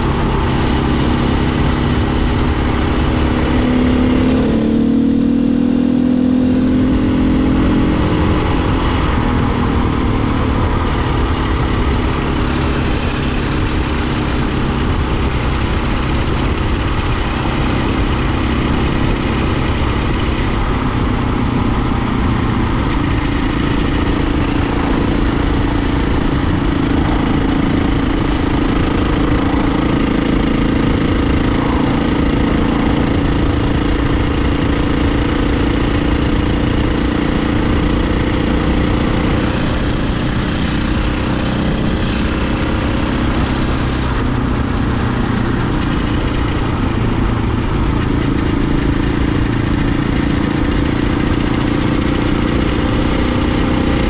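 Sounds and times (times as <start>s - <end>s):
dirt bike engine cruising: 0.0s - 54.0s
wind noise: 0.0s - 54.0s.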